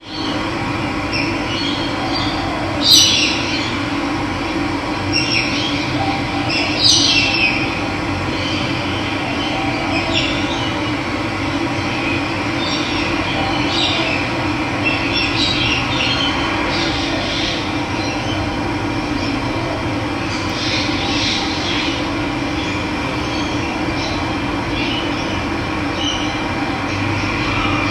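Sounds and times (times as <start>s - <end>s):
birds calling: 0.0s - 27.9s.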